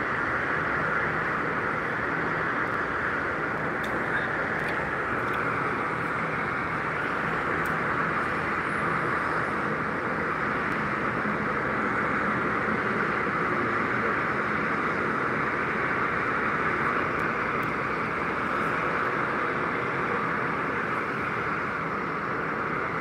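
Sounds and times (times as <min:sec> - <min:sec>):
city background hiss: 0:00.0 - 0:23.0.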